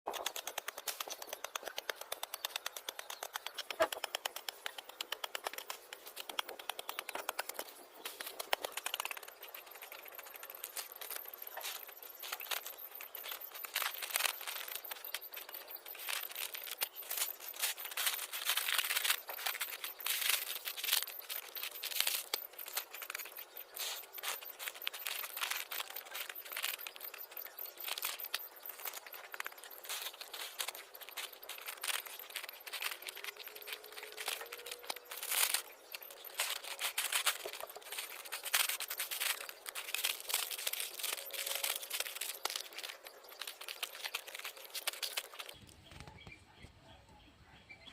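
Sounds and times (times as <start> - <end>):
plastic packet crinkling: 0.1 - 45.6
small clicks and crackles: 0.1 - 46.4.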